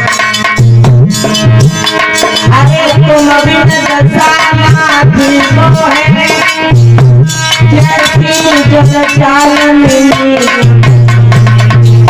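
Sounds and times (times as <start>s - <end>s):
hand drum bass strokes: 0.0s - 12.0s.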